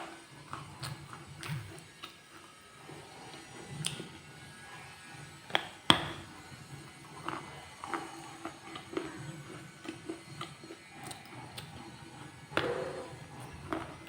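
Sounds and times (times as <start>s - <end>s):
crunchy chewing: 0.0s - 4.2s, 6.4s - 14.0s.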